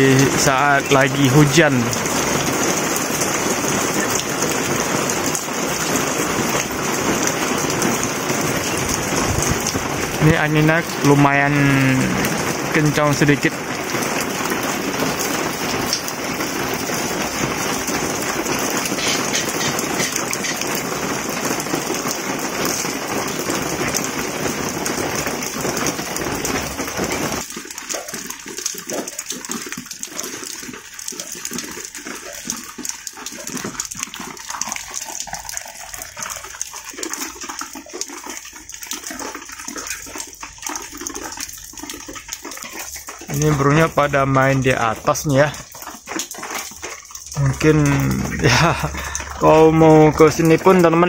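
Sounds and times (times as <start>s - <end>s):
steady rain: 0.0s - 51.0s
water drip ticks: 0.0s - 51.0s.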